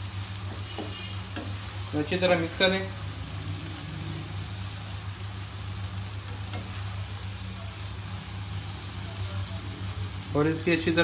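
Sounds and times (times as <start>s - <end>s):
low hum: 0.0s - 10.7s
lentils sizzling in a frying pan: 0.0s - 11.0s.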